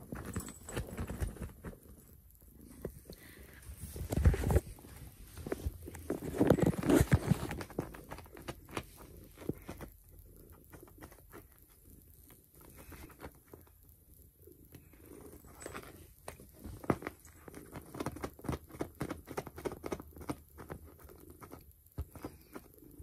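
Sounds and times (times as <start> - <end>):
small scratchy clicks: 0.0 - 23.0.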